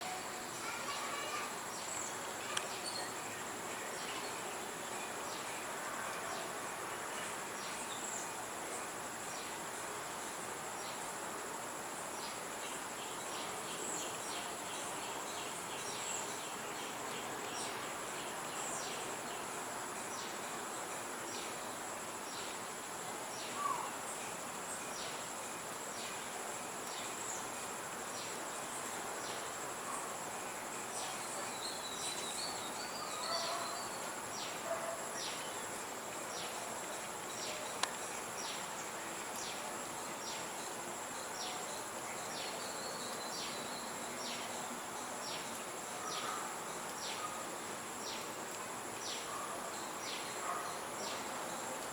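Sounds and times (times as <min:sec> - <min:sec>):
insects trilling: 0:00.0 - 0:09.5, 0:11.8 - 0:51.9.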